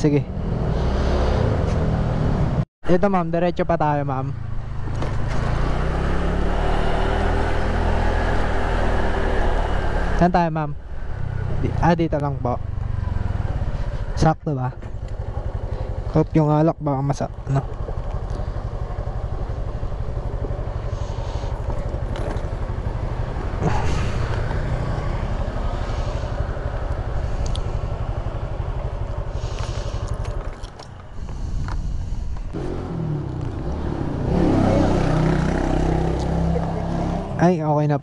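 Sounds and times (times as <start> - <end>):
motorcycle engine running: 4.3 - 37.5.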